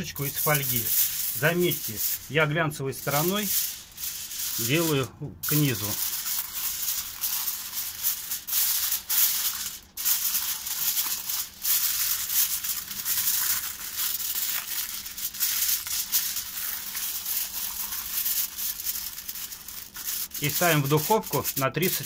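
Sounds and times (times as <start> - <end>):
aluminium foil crinkling: 0.0 - 22.0.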